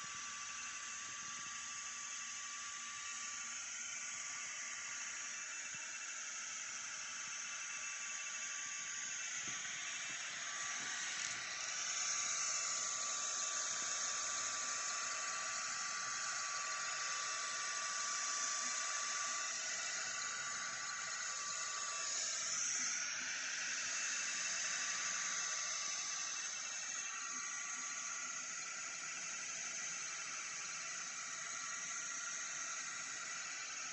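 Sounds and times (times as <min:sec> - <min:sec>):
laser head whirring: 0:00.0 - 0:33.9.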